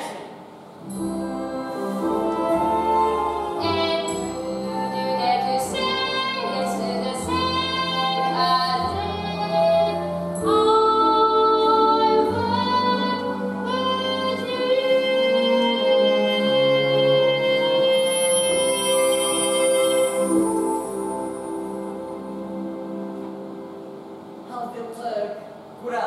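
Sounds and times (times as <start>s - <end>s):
instrumental accompaniment: 0.6s - 25.8s.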